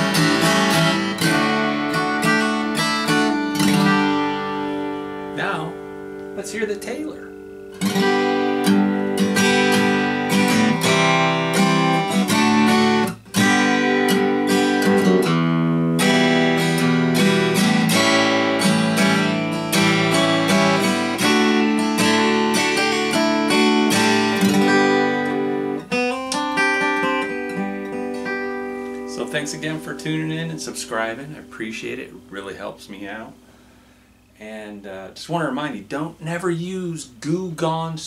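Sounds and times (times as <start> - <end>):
acoustic guitar strumming and picking: 0.0 - 38.0.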